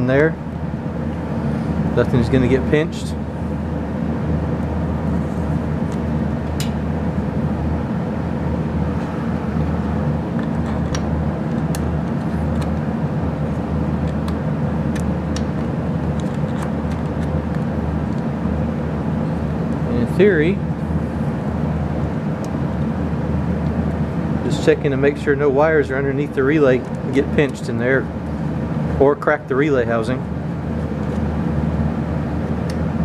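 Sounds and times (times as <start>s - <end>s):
heater humming: 0.0s - 33.0s.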